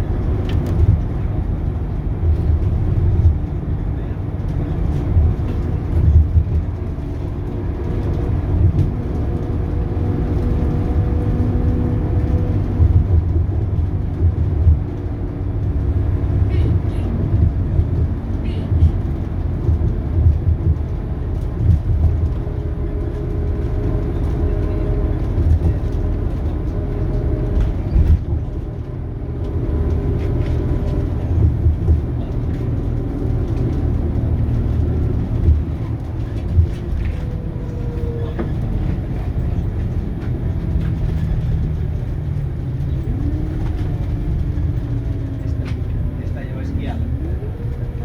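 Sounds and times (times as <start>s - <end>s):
diesel bus engine running: 0.0s - 48.0s.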